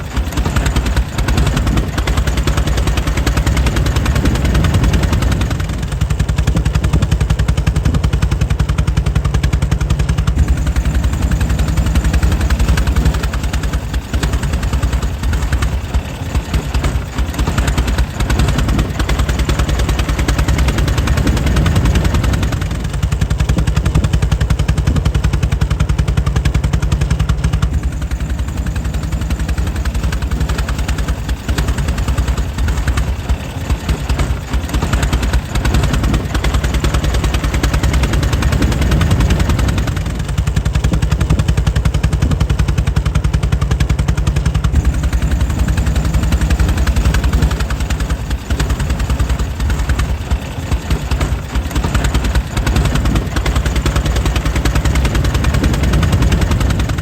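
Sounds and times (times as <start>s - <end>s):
engine with sharp exhaust beats: 0.0s - 57.0s.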